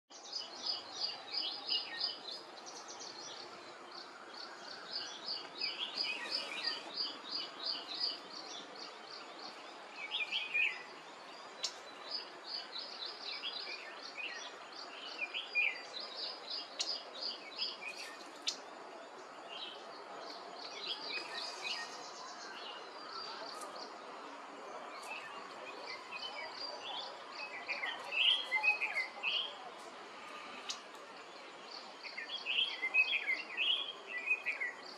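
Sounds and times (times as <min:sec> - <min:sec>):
steady background noise: 0:00.2 - 0:34.9.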